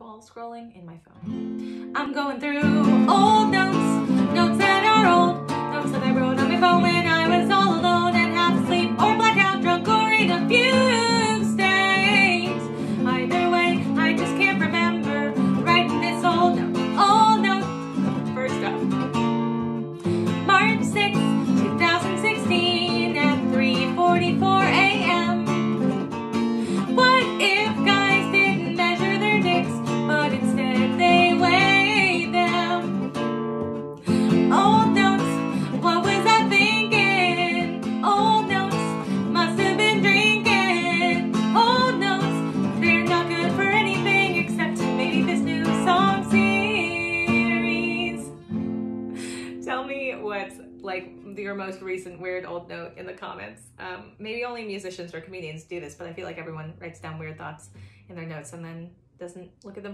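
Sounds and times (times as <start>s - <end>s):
acoustic guitar: 0.0s - 58.6s
woman singing: 1.6s - 19.1s, 20.0s - 33.0s, 34.0s - 48.6s, 49.2s - 56.6s.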